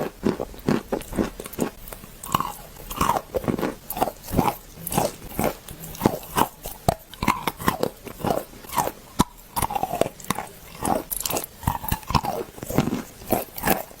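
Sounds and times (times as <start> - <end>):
person chewing crunchy clay: 0.0 - 14.0.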